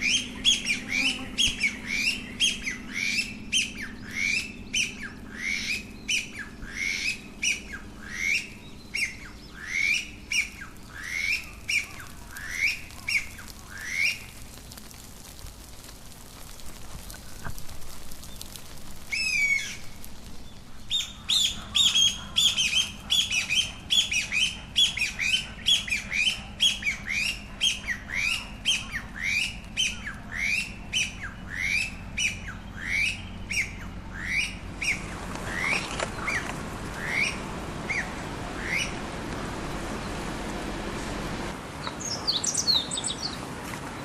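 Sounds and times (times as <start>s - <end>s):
bird calling: 0.0s - 15.0s, 16.8s - 40.4s, 41.8s - 43.4s.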